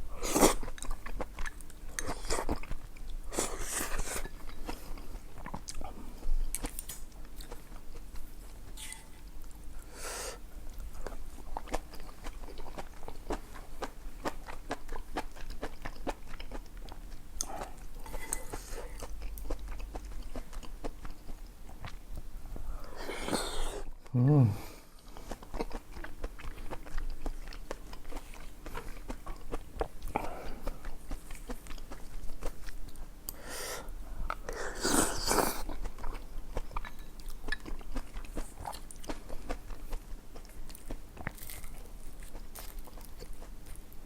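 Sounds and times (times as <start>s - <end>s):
chewing food: 0.4s - 9.9s, 10.6s - 23.3s, 25.0s - 33.4s, 34.2s - 44.0s.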